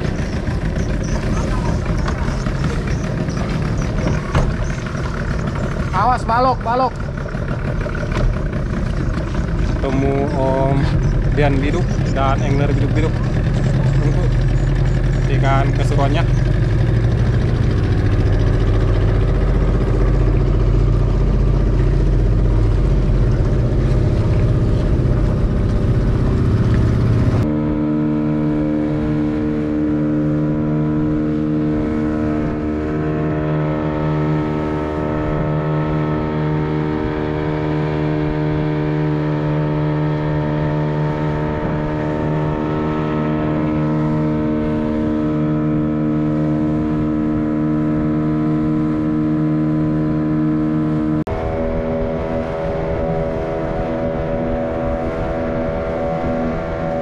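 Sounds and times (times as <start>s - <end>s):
heavy low rushing noise: 0.0s - 48.1s
outboard motor droning: 0.0s - 57.0s.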